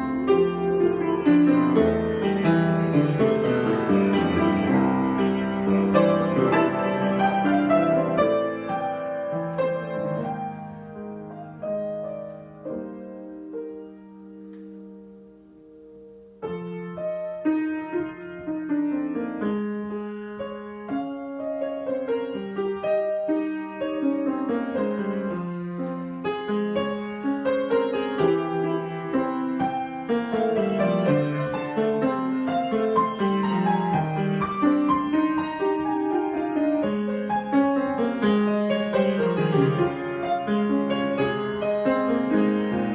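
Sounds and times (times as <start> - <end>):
solo piano improvisation: 0.0 - 42.9.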